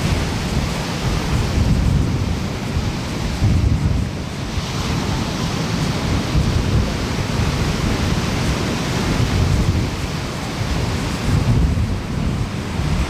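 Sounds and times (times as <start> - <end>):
ocean surf breaking on shore: 0.0 - 13.0.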